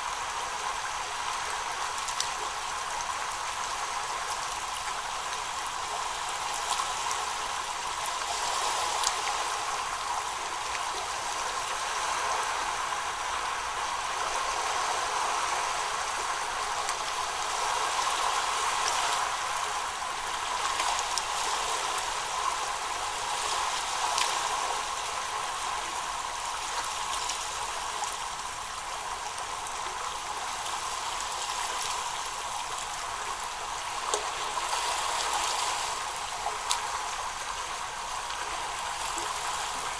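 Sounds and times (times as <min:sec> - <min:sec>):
faint ticks and splashes: 0:00.0 - 0:39.9
flowing water rushing: 0:00.0 - 0:39.9.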